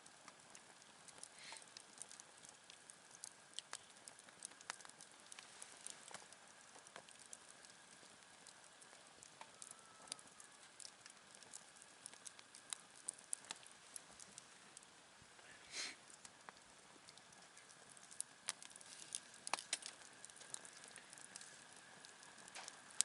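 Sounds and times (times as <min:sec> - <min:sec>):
campfire crackling: 0:00.0 - 0:23.0
faint fire hiss: 0:00.0 - 0:23.0
fire pops and snaps: 0:00.0 - 0:23.0.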